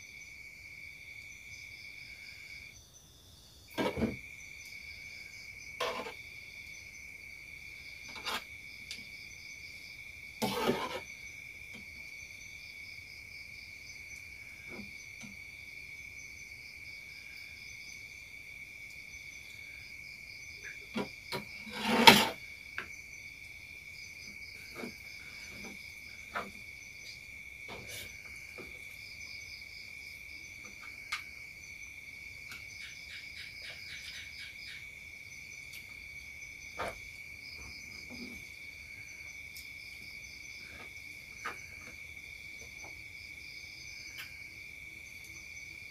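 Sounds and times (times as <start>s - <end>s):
crickets and insects chirping: 0.0s - 45.9s.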